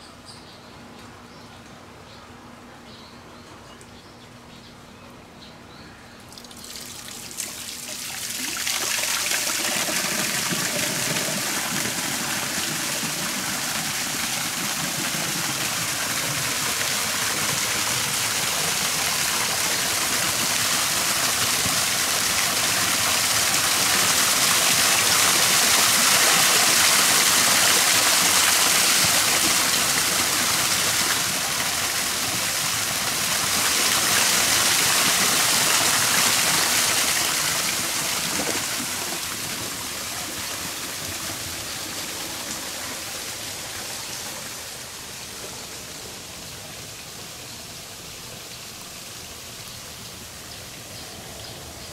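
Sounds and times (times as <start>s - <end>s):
waterfall pouring into pond: 6.3s - 50.1s.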